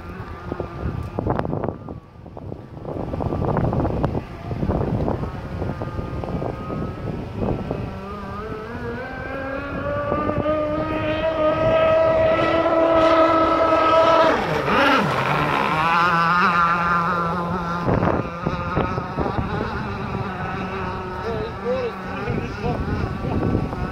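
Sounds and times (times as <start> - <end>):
model speedboat engine at full throttle: 0.0 - 23.9.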